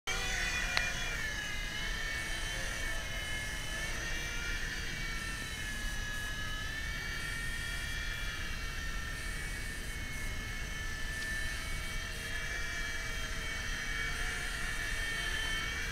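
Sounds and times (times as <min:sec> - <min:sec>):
toy helicopter rotor whining: 0:00.1 - 0:15.9.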